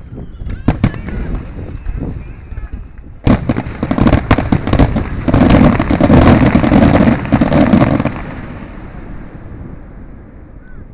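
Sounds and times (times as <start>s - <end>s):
fireworks bursting and crackling: 0.2s - 10.6s.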